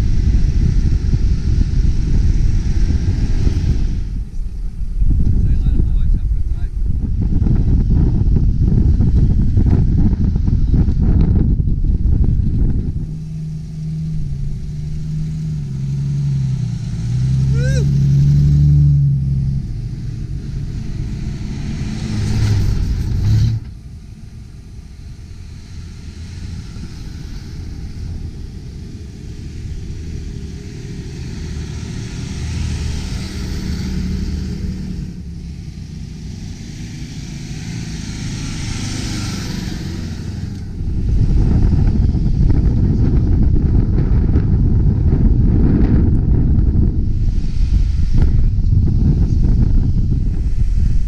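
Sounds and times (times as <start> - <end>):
loud low rumble: 0.0 - 51.0
vehicle engines driving past: 0.0 - 51.0.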